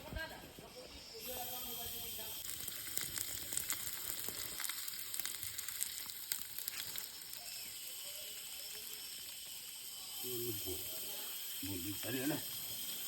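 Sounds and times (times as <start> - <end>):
food frying in hot oil: 1.4 - 13.0
oil crackling and popping: 2.1 - 13.0.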